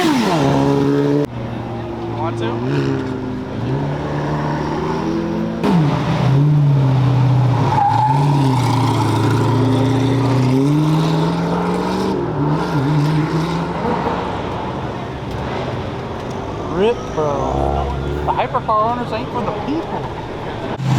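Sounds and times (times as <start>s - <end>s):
car engine pulling away: 0.0s - 18.6s, 20.7s - 20.9s.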